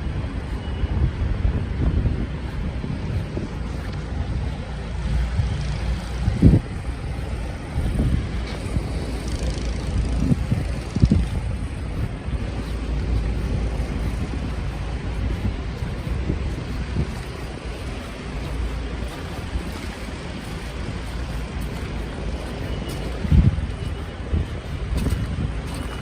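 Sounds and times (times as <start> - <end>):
city traffic rumble: 0.0 - 26.0
wind noise on microphone: 0.0 - 26.0.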